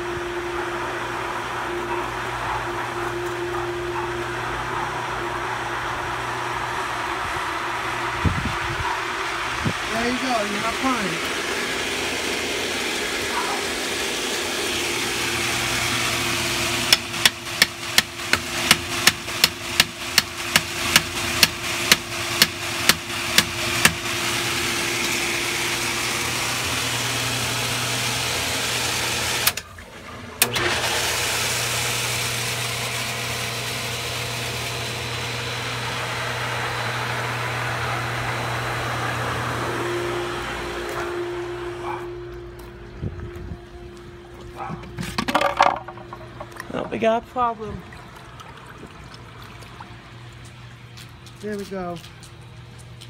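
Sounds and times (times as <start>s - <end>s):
pool pump motor hum: 0.0s - 53.0s.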